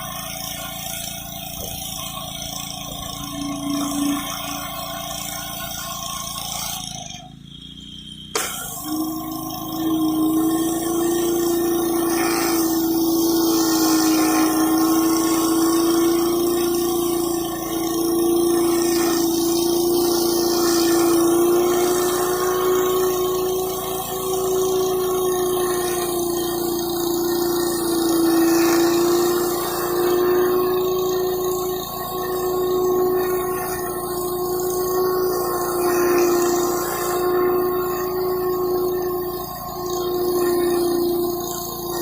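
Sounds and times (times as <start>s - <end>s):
pressure washer engine humming: 0.0s - 42.0s
water jet hissing on concrete: 0.0s - 42.0s.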